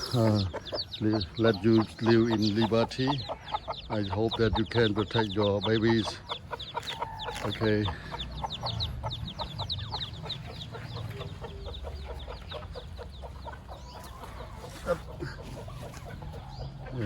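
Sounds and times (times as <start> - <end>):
chicks peeping: 0.0 - 17.0
hens clucking: 0.0 - 17.0.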